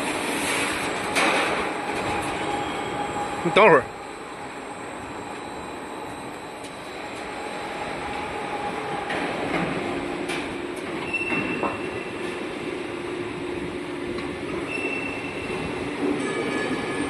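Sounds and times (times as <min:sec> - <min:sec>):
roll forming machine running: 0:00.0 - 0:13.7
steady mechanical whine: 0:00.0 - 0:14.8.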